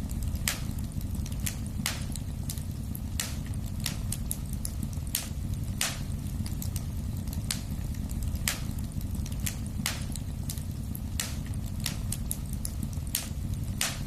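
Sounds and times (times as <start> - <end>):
burning logs crackling and popping: 0.0 - 14.0
fire flames rumbling: 0.0 - 14.0.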